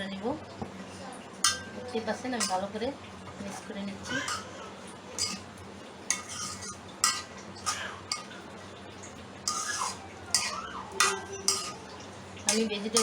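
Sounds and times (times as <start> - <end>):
utensil stirring and scraping a pot: 1.4 - 8.5, 9.4 - 13.0.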